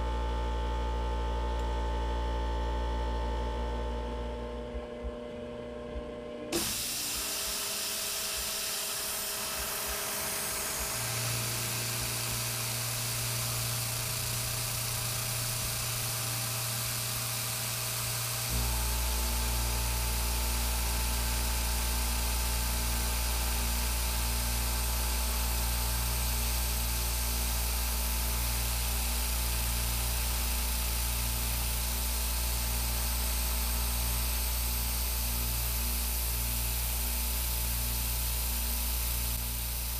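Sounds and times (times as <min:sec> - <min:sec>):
deep hum with low pulsing: 0:00.0 - 0:06.6, 0:08.8 - 0:39.9
milling machine whine: 0:03.2 - 0:39.9.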